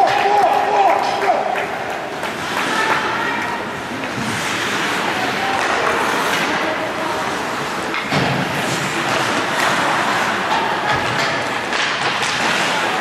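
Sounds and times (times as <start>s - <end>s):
skates scraping ice: 0.0s - 13.0s.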